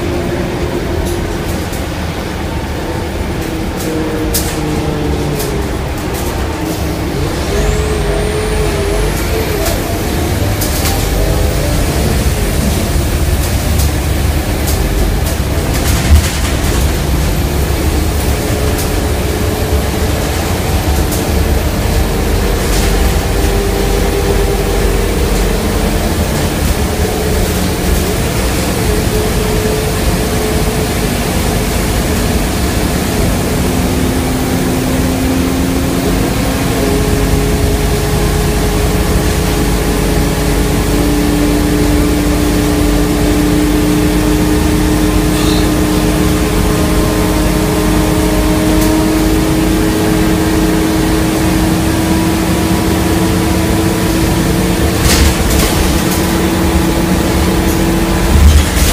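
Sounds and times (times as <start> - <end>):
bus engine and road drone: 0.0 - 58.9
engine whine: 0.0 - 58.9.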